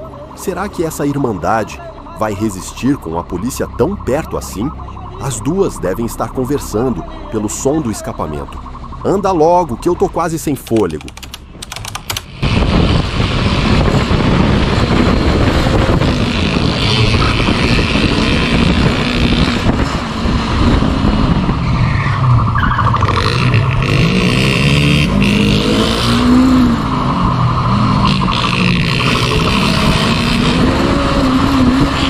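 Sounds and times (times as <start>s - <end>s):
motorcycle engines revving: 0.0s - 11.6s, 12.2s - 32.0s.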